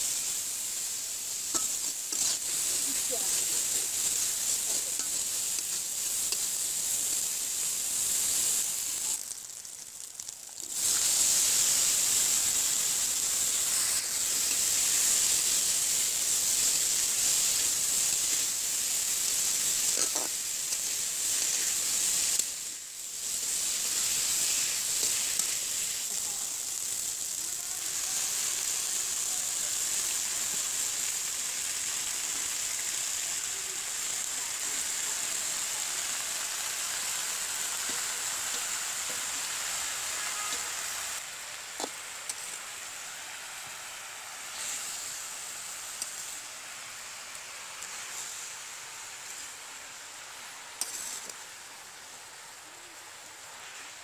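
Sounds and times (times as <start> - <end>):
hot oil sizzling: 0.0 - 54.0.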